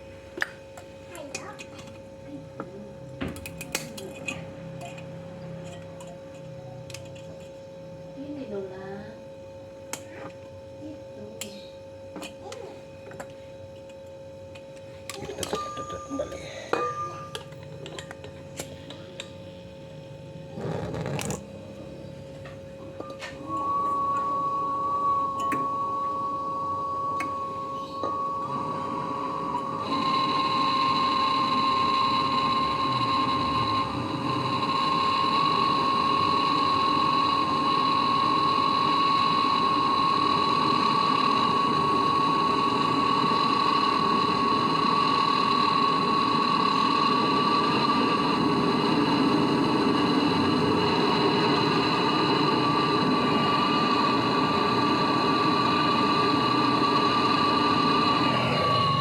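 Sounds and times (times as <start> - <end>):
high whine over hum: 0.0 - 59.0
refrigerator compressor running: 0.0 - 59.0.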